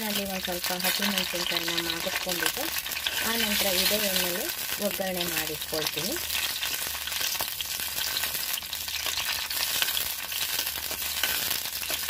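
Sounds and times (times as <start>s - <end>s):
chillies sizzling in hot oil: 0.0s - 12.0s.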